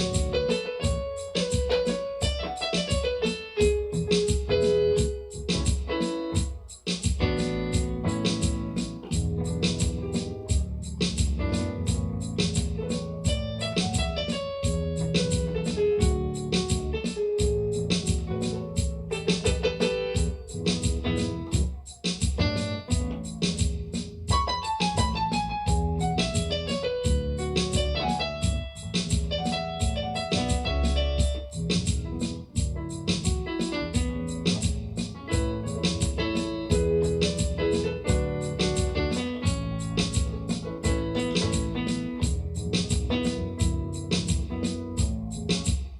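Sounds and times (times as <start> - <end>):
bass line: 0.0 - 1.2, 3.6 - 5.8, 7.2 - 21.8, 22.4 - 45.7
drum beat: 0.0 - 45.9
electronic keyboard melody: 0.0 - 45.9.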